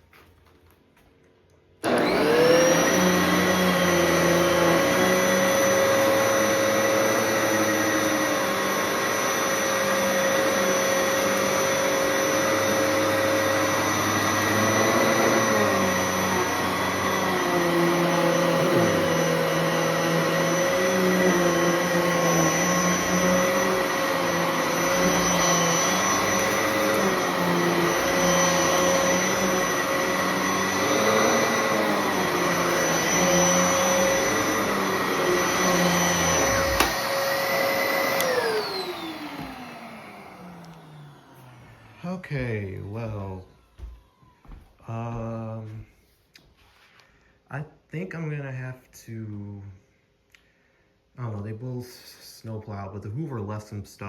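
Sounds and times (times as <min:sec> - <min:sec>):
vacuum cleaner motor whine: 0:01.8 - 0:45.8.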